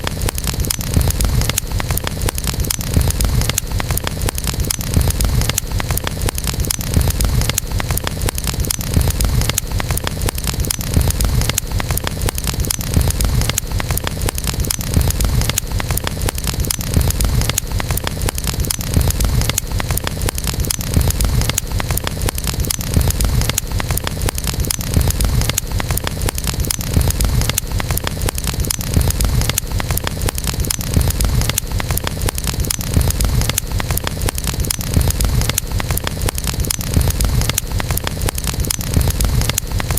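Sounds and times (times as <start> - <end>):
campfire wood crackling and popping: 0.0 - 39.9
low rumble of flames: 0.0 - 39.9.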